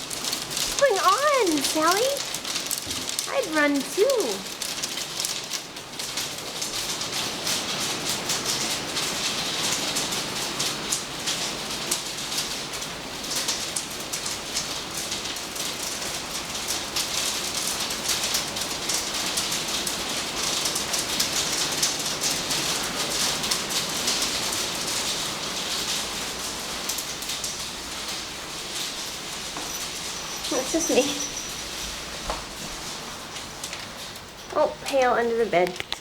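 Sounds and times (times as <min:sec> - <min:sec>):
hailstones striking hard surfaces: 0:00.0 - 0:36.0.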